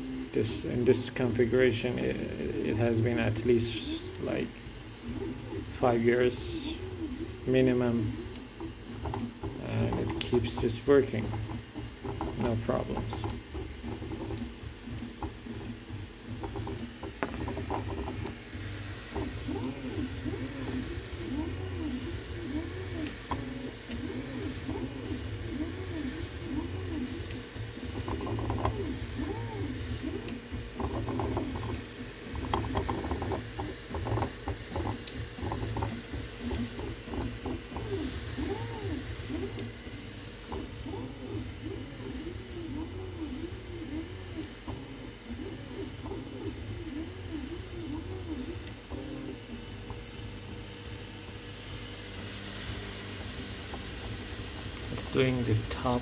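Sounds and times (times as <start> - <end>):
steady low hum: 0.0 - 56.0
stepper motors whining: 0.0 - 56.0.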